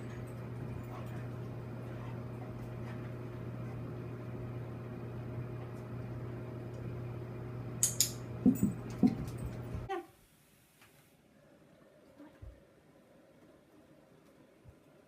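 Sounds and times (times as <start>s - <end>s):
steady low hum with hiss: 0.0s - 15.0s.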